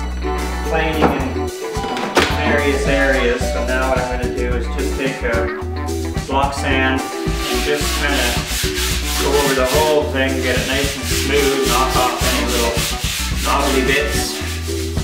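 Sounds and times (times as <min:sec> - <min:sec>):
background music with guitar and bass: 0:00.0 - 0:15.0
rhythmic rasping: 0:00.0 - 0:15.0.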